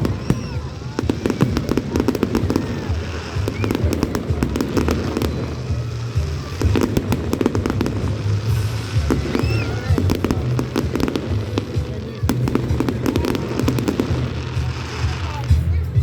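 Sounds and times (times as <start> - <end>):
fireworks crackling pops: 0.0 - 16.0
fireworks whistles: 0.0 - 16.0.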